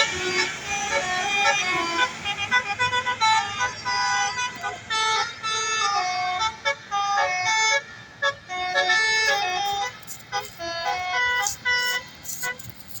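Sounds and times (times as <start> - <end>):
bus musical horn playing a tune: 0.0 - 13.0.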